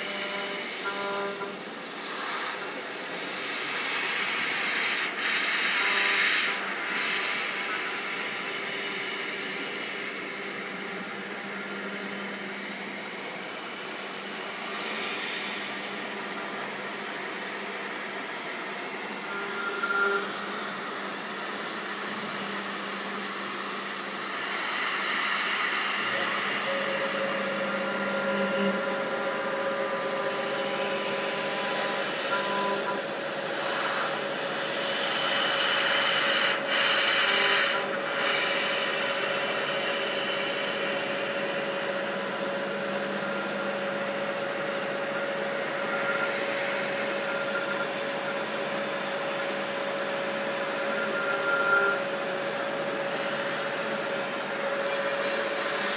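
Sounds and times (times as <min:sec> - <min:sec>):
router spindle whine: 0:00.0 - 0:55.9.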